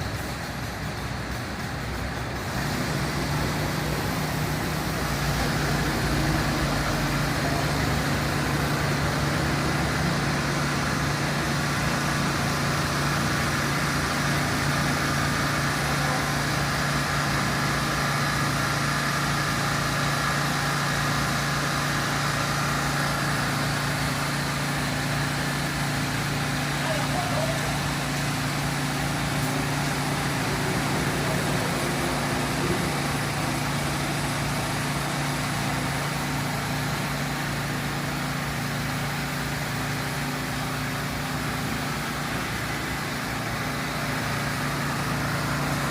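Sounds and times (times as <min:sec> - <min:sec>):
fire truck engine idling: 0:00.0 - 0:45.9.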